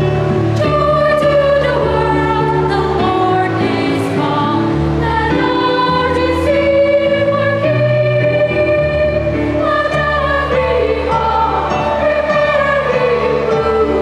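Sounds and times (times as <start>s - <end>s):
children's choir singing a carol: 0.0s - 14.0s
low instrumental accompaniment: 0.0s - 14.0s.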